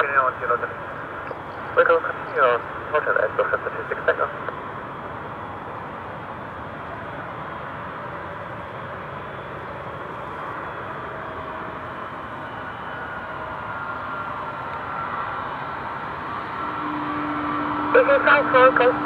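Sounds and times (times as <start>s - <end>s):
high engine whine: 0.0s - 19.0s
jet engines rushing: 0.0s - 19.0s.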